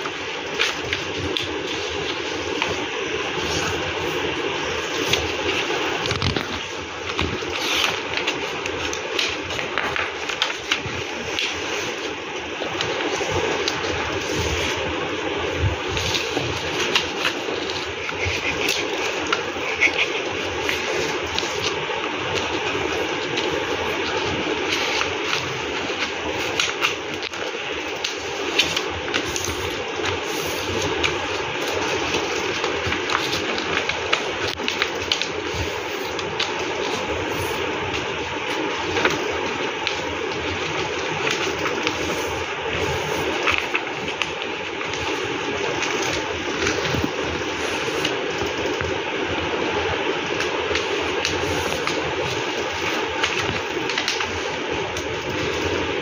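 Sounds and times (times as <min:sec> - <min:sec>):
paper folding and rustling: 0:00.0 - 0:56.0
steady rushing noise: 0:00.0 - 0:56.0.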